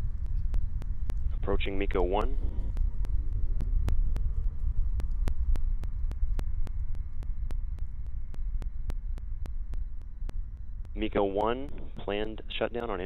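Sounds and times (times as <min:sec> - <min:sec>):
low rocket engine rumble: 0:00.0 - 0:13.0
rapid sharp clicks: 0:00.0 - 0:13.0.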